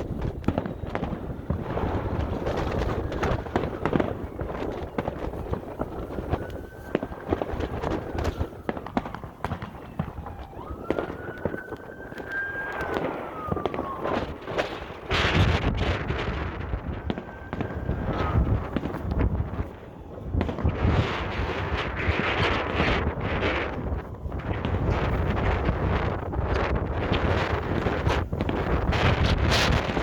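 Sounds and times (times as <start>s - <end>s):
fireworks bangs and crackles: 0.0s - 30.0s
wind buffeting microphone: 0.0s - 30.0s.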